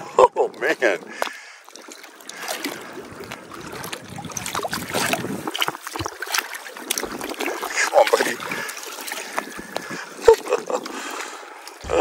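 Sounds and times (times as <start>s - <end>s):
water splashing around net: 0.8s - 12.0s.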